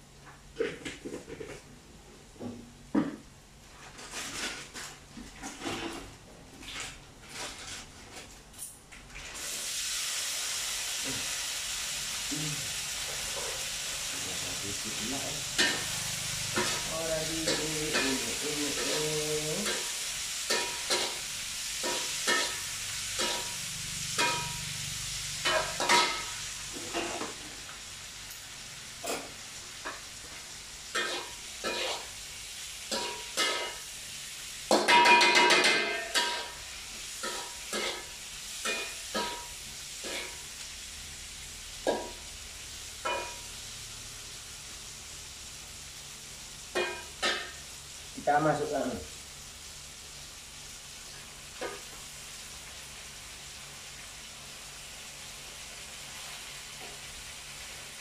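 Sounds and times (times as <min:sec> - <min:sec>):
hot oil sizzling in a frying pan: 0:09.1 - 0:58.0.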